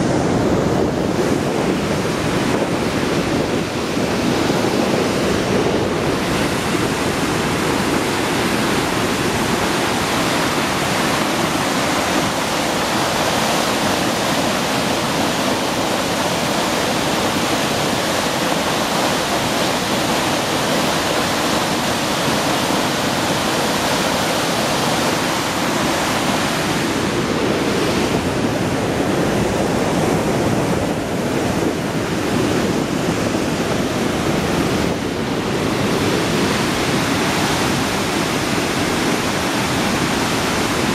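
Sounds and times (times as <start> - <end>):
white water rushing roar: 0.0 - 40.9.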